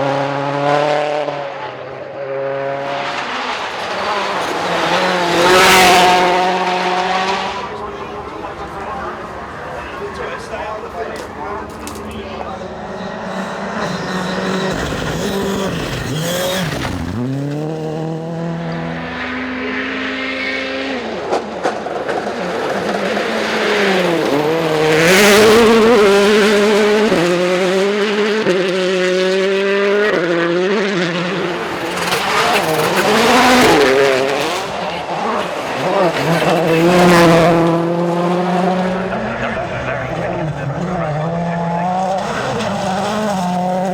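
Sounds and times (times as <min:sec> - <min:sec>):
rally car engine at high revs: 0:00.0 - 0:43.9.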